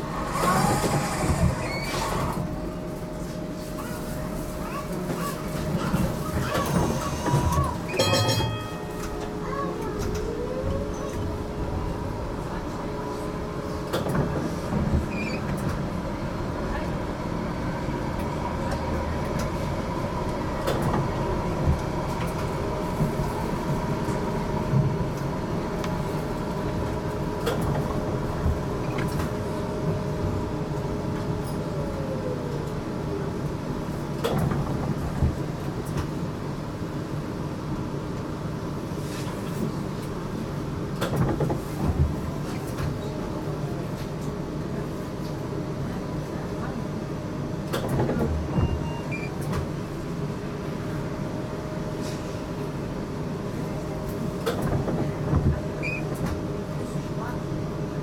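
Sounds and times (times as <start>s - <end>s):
tram wheels and motors rumbling: 0.0s - 58.0s.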